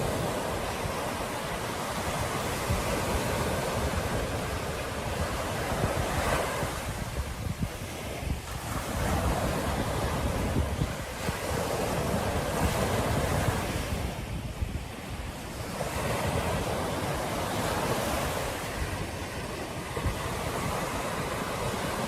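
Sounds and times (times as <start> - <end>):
ocean surf breaking on beach: 0.0 - 22.0
wind rumbling on microphone: 0.0 - 22.0.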